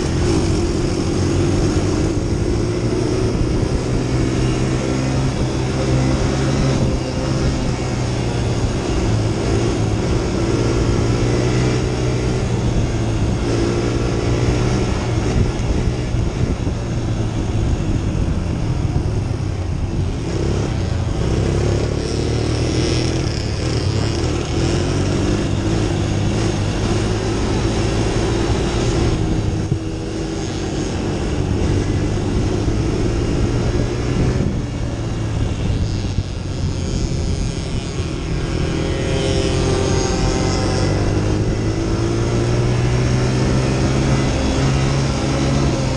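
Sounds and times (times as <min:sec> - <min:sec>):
quad engine running hard: 0:00.0 - 0:45.9.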